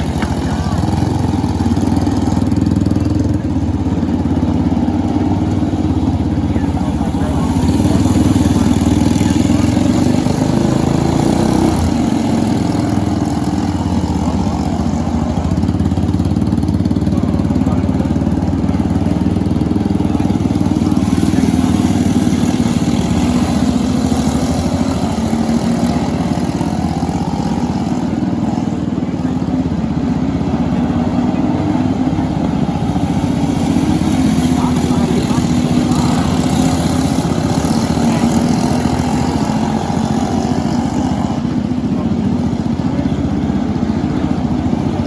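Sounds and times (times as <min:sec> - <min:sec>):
kart engine running: 0:00.0 - 0:45.0.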